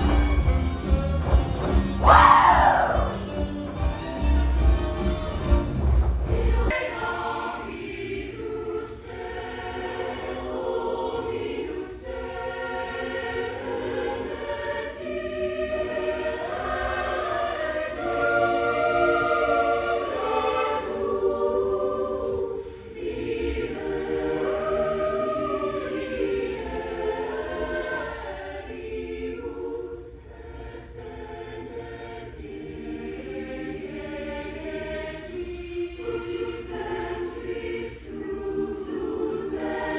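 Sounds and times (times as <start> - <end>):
choir singing in parts: 0.0 - 39.9.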